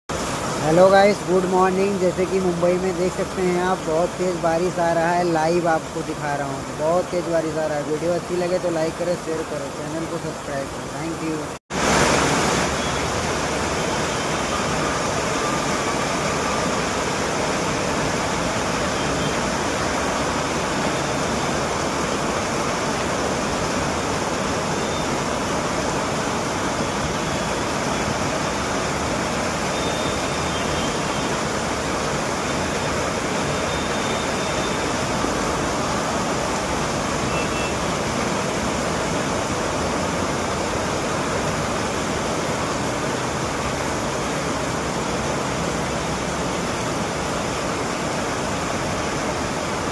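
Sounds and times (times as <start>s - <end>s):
heavy rain pouring: 0.1s - 49.9s.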